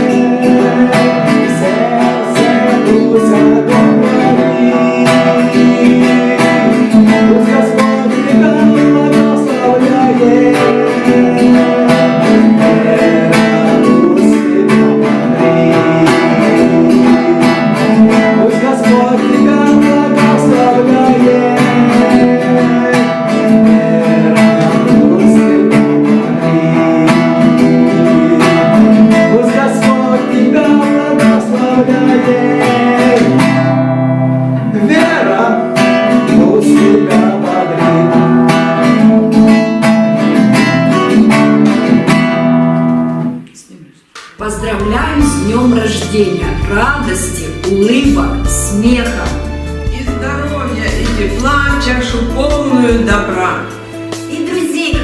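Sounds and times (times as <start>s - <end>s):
song with strummed acoustic guitar: 0.0s - 55.0s.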